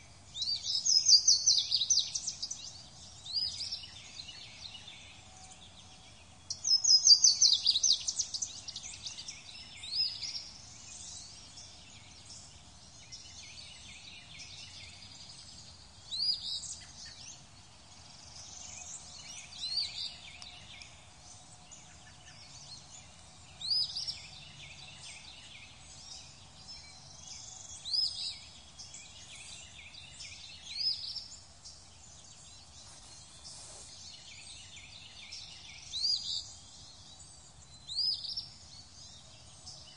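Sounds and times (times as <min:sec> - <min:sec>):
birds chirping and singing: 0:00.4 - 0:39.9.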